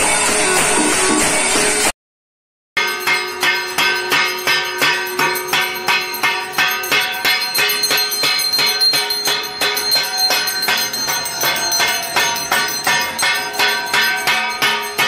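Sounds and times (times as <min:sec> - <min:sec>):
ringing metal strikes: 0:02.8 - 0:15.0.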